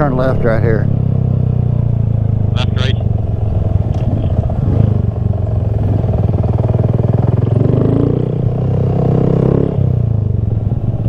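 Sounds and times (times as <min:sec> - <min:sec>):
motorcycle engine running at low speed: 0:00.0 - 0:11.0.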